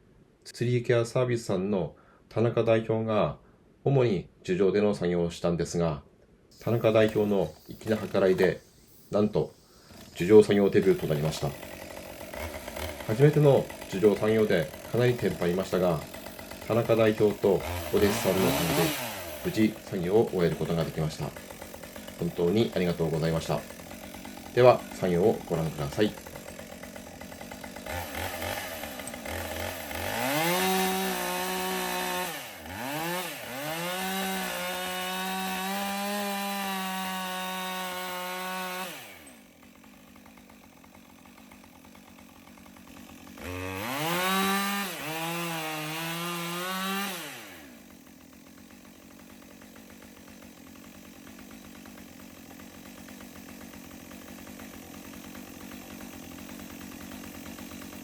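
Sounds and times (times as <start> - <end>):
chainsaw revving: 6.6 - 58.0.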